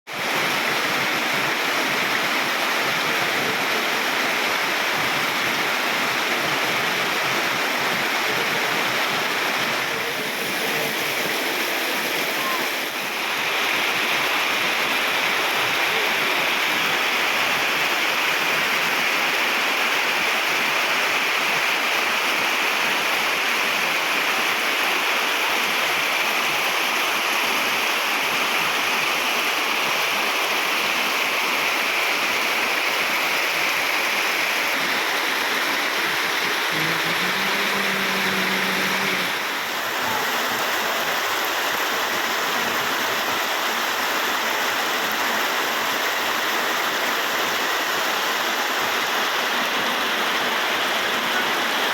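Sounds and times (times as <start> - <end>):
heavy rain falling: 0.1 - 51.9.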